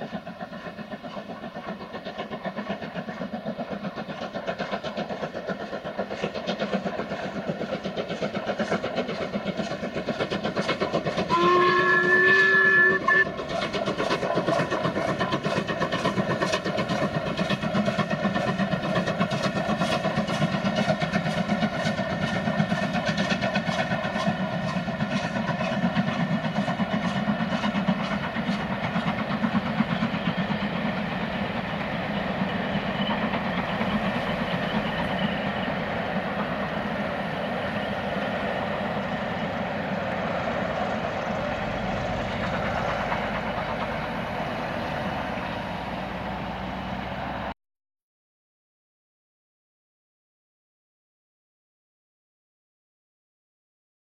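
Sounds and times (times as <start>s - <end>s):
train wheels clicking over rail joints: 0.0s - 47.3s
steady train rumble: 0.0s - 47.6s.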